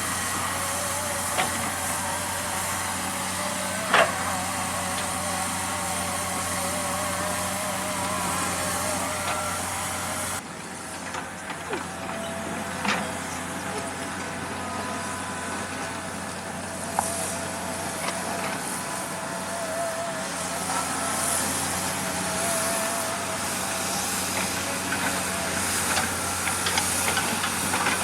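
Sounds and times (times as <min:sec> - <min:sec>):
thin wavering whine: 0:00.0 - 0:10.5, 0:11.2 - 0:28.0
diesel engine running: 0:00.0 - 0:28.0.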